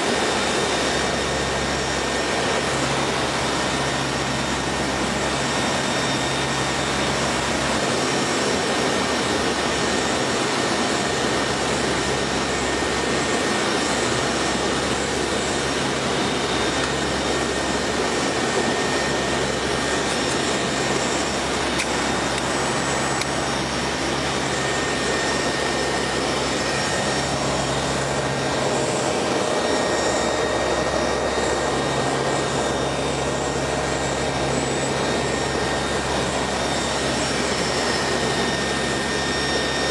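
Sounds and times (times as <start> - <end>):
aircraft engines droning: 0.0 - 39.9
high-pitched whines: 0.0 - 39.9.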